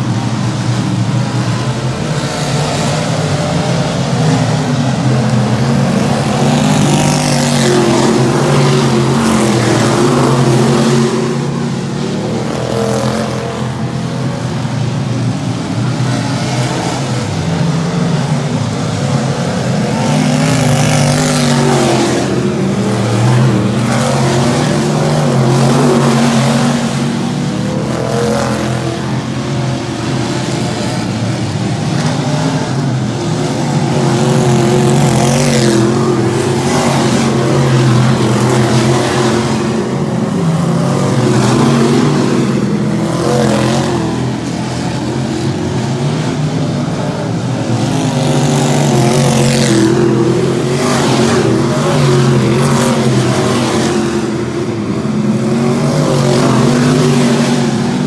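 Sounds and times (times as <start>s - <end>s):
stock car engines racing: 0.0s - 58.0s.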